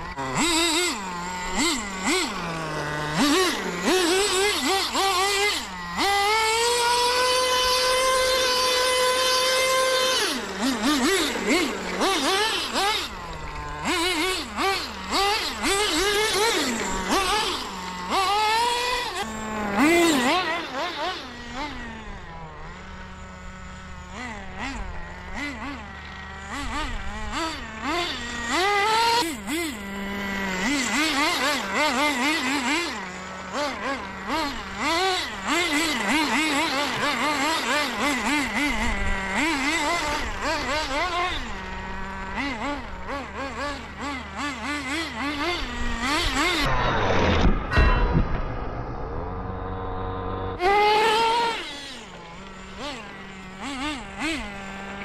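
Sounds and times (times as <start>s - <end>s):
small nitro engine revving: 0.0s - 55.0s.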